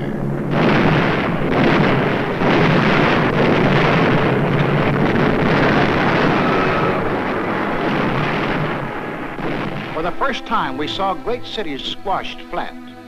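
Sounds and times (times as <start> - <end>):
aircraft engines roaring: 0.0 - 13.0.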